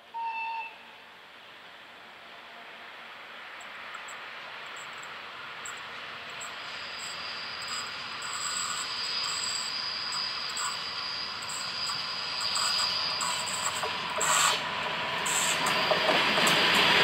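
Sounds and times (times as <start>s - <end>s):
diesel locomotive engine: 0.0s - 17.0s
train running noise: 0.0s - 17.0s.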